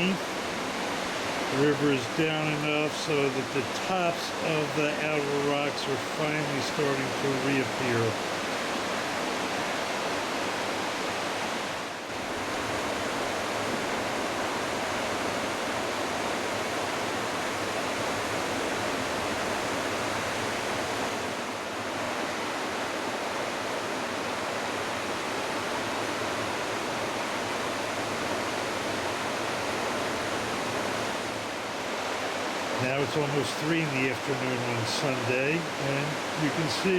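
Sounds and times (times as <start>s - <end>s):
river water rushing: 0.0s - 36.9s.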